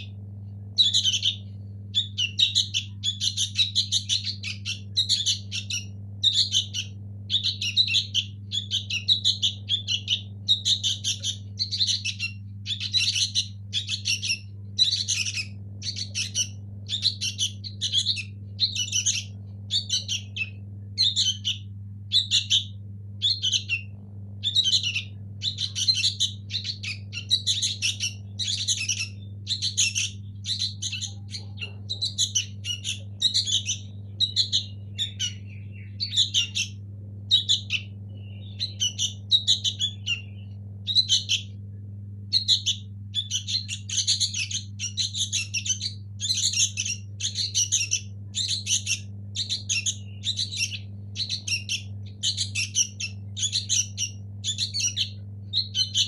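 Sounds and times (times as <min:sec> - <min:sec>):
fledgling birds begging chirps: 0:00.0 - 0:56.0
steady low hum: 0:00.0 - 0:56.0.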